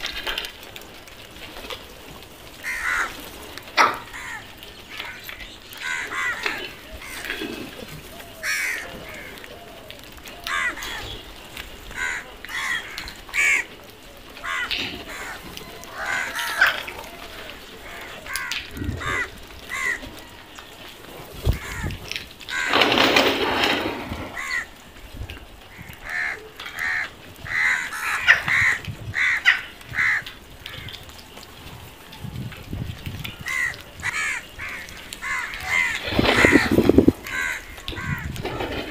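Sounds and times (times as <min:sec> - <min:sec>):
crows cawing: 0:02.6 - 0:25.0, 0:25.7 - 0:31.2, 0:33.3 - 0:38.9.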